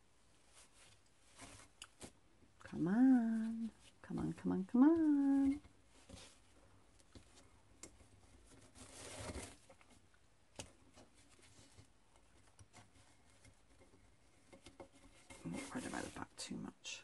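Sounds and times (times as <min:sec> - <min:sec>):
soft rustle: 0:00.0 - 0:17.0.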